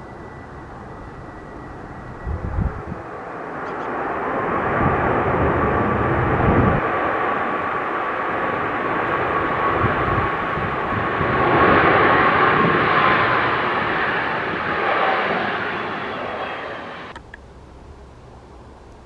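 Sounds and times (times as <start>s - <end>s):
jet airliner passing: 0.0s - 17.3s.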